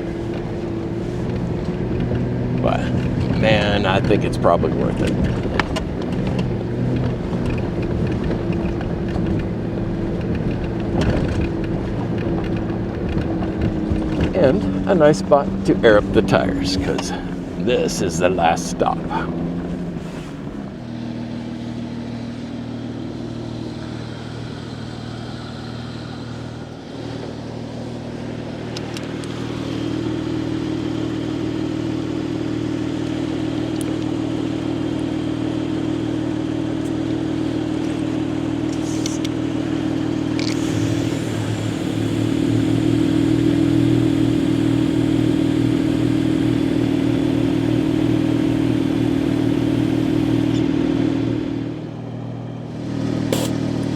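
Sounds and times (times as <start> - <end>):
vehicle engine humming: 0.0 - 53.9.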